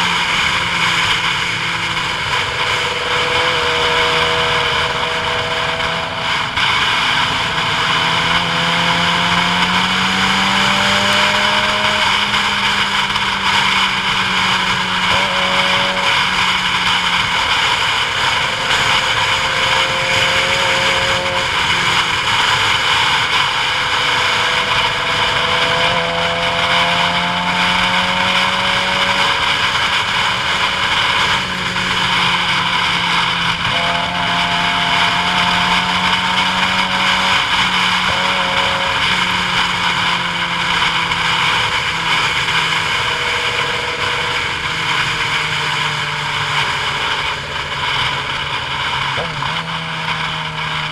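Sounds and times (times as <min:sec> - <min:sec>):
road and wind rush: 0:00.0 - 0:50.9
vehicle engine changing pitch: 0:00.0 - 0:50.9.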